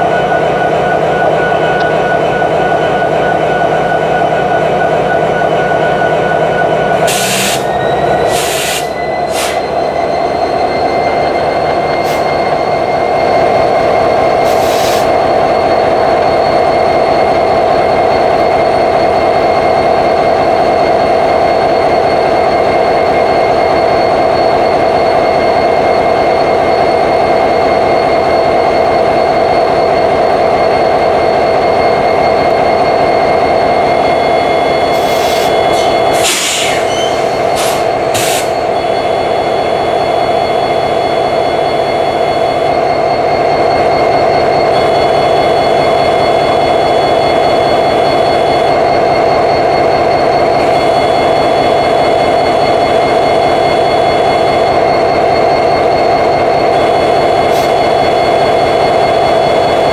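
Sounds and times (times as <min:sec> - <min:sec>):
high engine whine: 0:00.0 - 0:59.9
locomotive diesel engine drone: 0:00.0 - 0:59.9.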